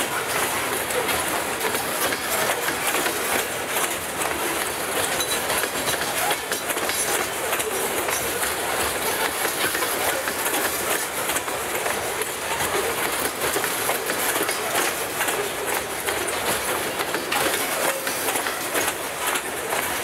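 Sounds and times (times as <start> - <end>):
steel wheels rolling on rails: 0.0 - 20.0
short clicks and clacks: 0.3 - 20.0.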